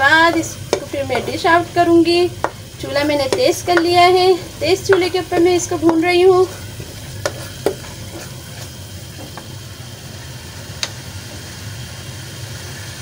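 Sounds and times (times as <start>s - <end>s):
chutney sizzling in a pan: 0.0s - 13.0s.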